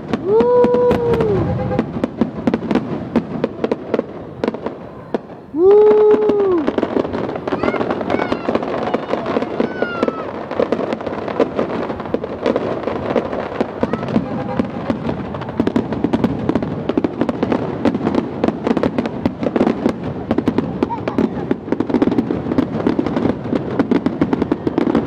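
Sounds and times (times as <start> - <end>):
fireworks crackling: 0.0 - 25.0.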